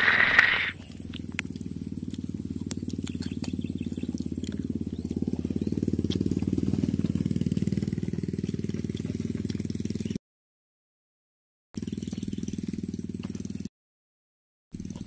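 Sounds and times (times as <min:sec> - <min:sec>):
small engine running: 0:00.0 - 0:10.2, 0:11.8 - 0:13.7, 0:14.8 - 0:15.0.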